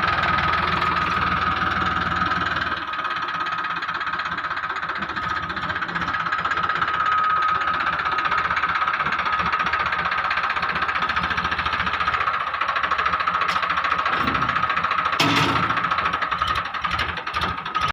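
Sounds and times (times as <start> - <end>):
tractor engine running: 0.0 - 17.9.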